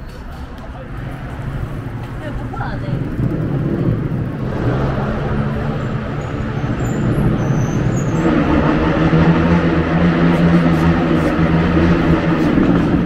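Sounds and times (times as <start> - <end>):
motor vehicle engines humming: 0.0 - 13.0.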